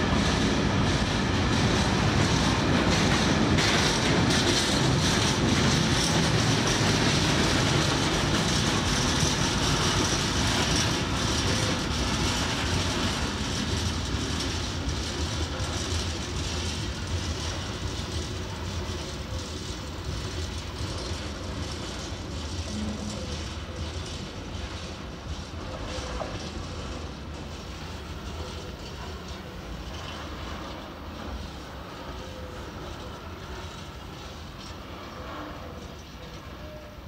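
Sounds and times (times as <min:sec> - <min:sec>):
freight train rolling on rails: 0:00.0 - 0:37.0
wheels clattering over rail joints: 0:00.1 - 0:37.0.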